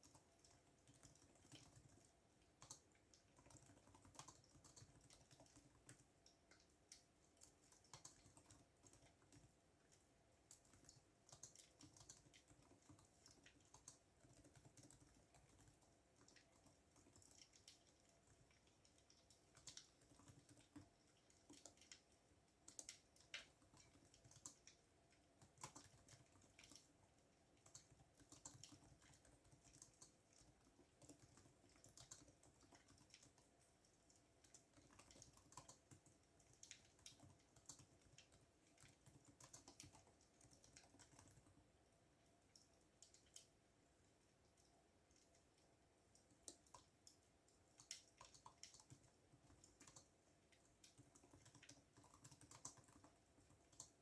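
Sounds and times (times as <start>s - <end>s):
faint keyboard typing: 0.0s - 54.0s.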